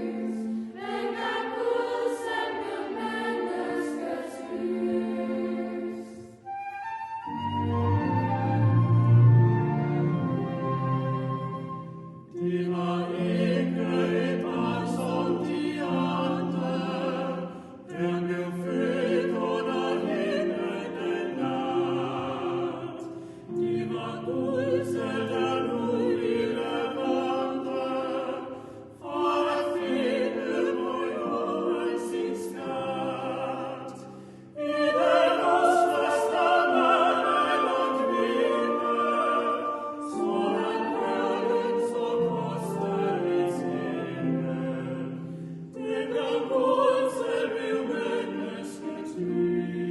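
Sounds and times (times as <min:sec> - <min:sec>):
chamber orchestra: 0:00.0 - 0:49.9
choir singing: 0:00.0 - 0:49.9.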